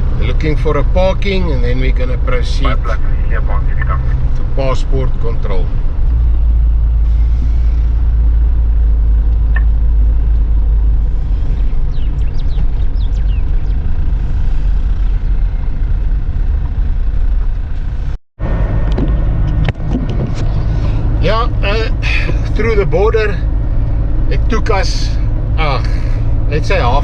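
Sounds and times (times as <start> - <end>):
road noise: 0.0 - 27.0
vehicle engine rumbling: 0.0 - 27.0.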